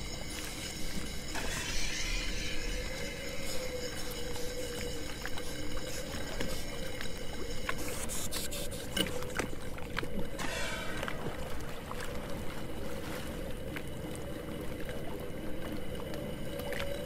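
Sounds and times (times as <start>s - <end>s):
steady underwater hum: 0.0s - 17.0s.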